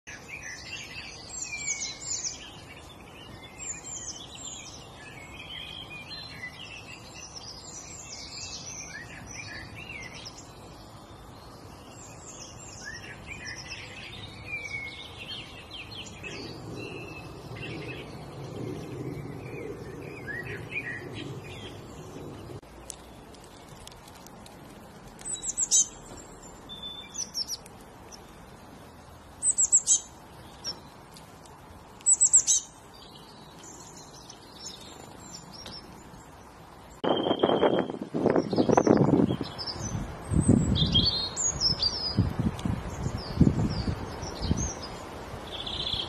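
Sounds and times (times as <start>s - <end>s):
songbirds chirping and singing: 0.0s - 24.2s, 25.2s - 46.0s.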